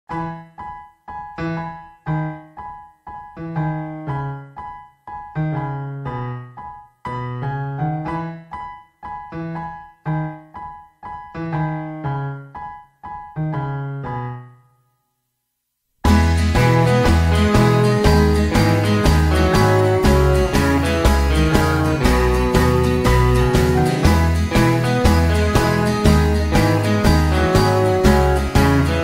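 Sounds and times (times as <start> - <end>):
gentle piano music: 0.1 - 14.9, 16.0 - 29.0.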